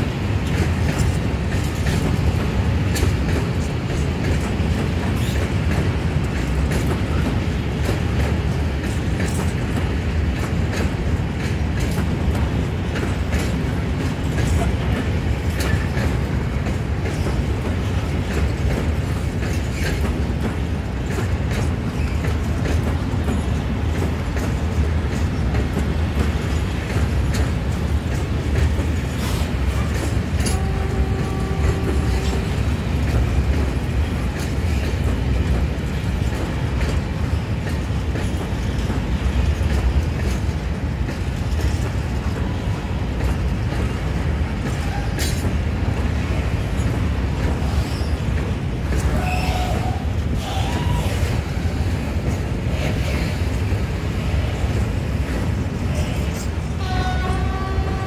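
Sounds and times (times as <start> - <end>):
freight train rolling past: 0.0 - 58.0
wheels and couplings clicking: 0.0 - 58.0.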